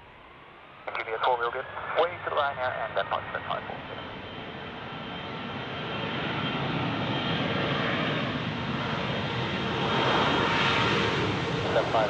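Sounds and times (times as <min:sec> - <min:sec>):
jet engines whining: 0:00.0 - 0:12.0.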